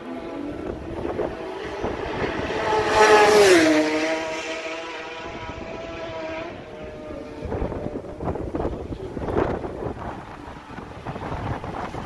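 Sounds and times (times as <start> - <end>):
racing motorcycle passing by: 0.0 - 12.0.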